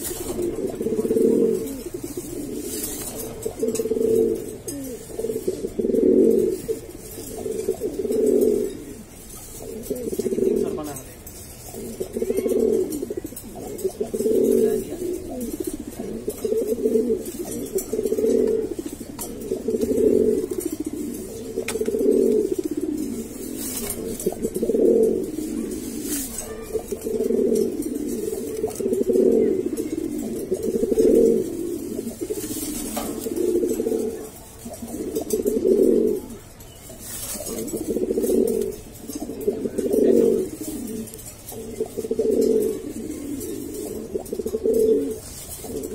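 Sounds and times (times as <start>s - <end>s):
pigeon cooing: 0.0s - 45.9s.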